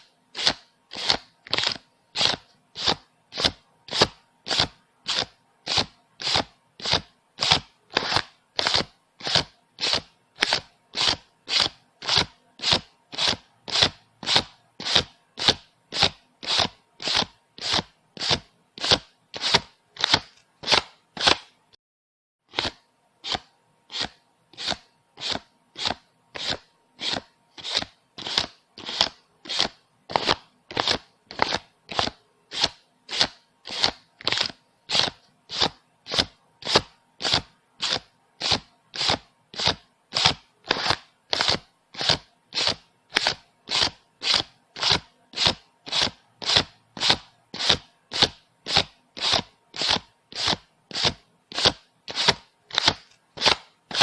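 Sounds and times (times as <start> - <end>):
paper bills snapping: 0.4 - 21.6, 22.5 - 54.0.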